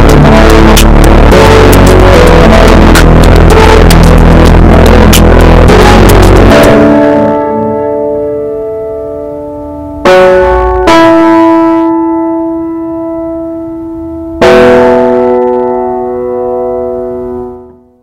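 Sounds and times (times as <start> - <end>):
slow ringing music chords: 0.0 - 18.0.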